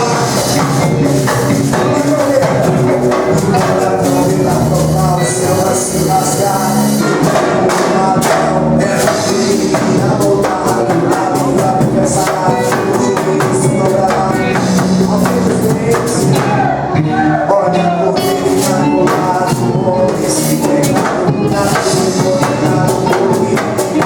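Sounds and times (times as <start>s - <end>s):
band playing gospel music: 0.0s - 24.0s
drum kit: 0.0s - 24.0s.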